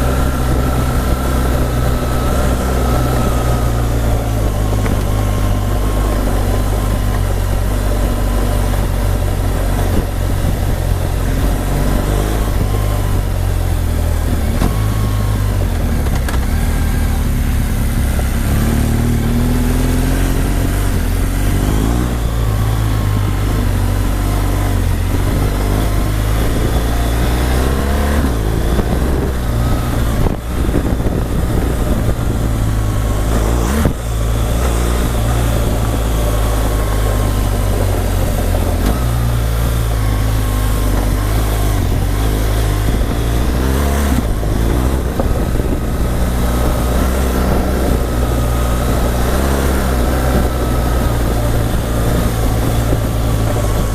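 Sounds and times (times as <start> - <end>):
motorcycle engine revving: 0.0 - 53.9
wind rush over microphone: 0.0 - 53.9.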